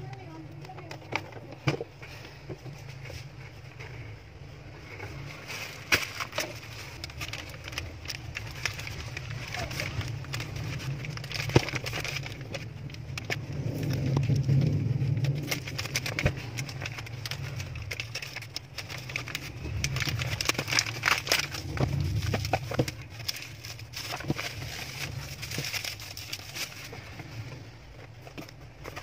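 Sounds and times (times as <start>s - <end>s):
low steady hum: 0.0s - 29.0s
foil mailer crinkling: 4.9s - 29.0s.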